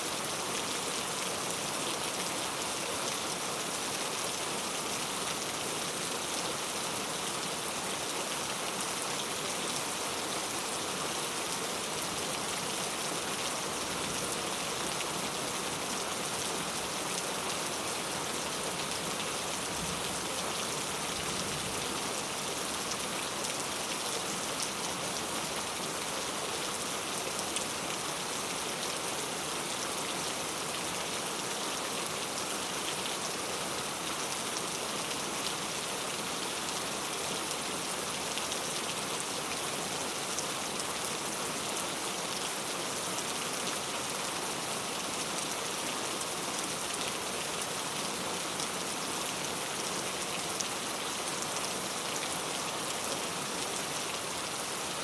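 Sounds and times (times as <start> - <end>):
heavy rain on street: 0.0 - 55.0.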